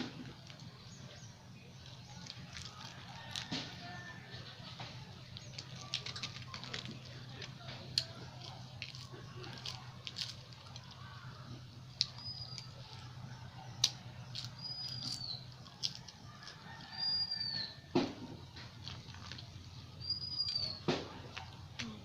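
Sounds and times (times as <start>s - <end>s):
steady low hum: 0.0s - 22.0s
wet chewing and smacking: 0.0s - 22.0s.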